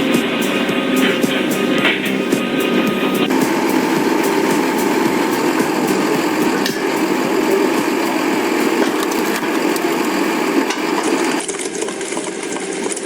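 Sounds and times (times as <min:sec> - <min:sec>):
log splitter running: 0:00.0 - 0:13.0.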